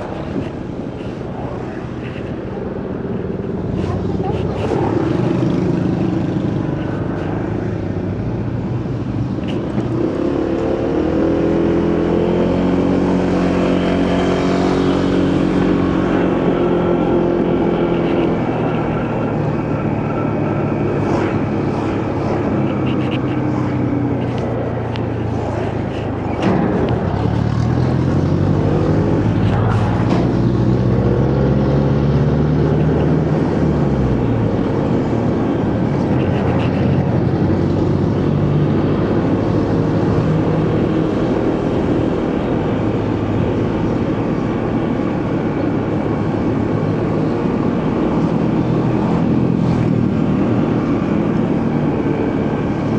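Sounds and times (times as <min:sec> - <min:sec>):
road noise: 0:00.0 - 0:52.9
wind: 0:00.0 - 0:52.9.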